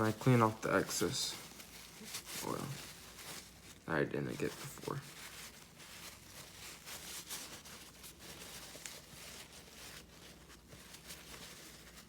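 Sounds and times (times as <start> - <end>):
paper towel rustling: 0.0 - 12.0.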